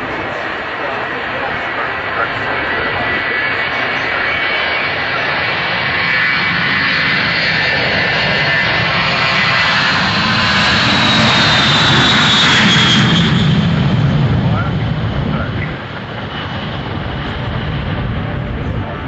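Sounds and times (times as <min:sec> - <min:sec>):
aircraft engine flying past: 0:00.0 - 0:19.0.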